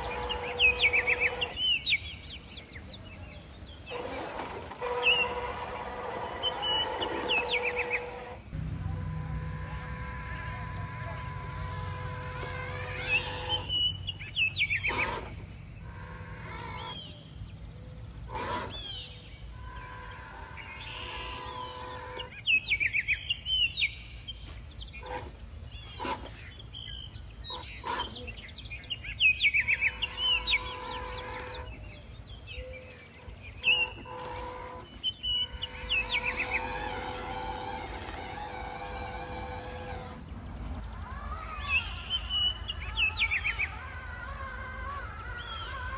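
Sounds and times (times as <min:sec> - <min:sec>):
birds chirping: 0:00.0 - 0:45.9
faint steady hum: 0:00.0 - 0:45.9
harsh bird calls: 0:00.0 - 0:45.9.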